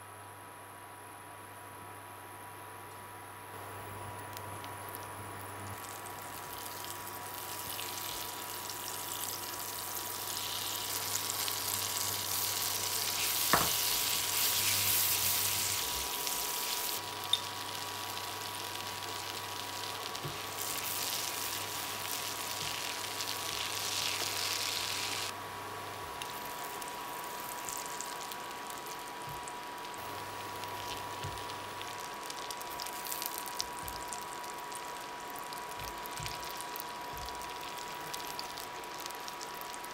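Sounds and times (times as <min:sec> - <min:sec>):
oil sizzling in a frying pan: 0:04.6 - 0:39.9.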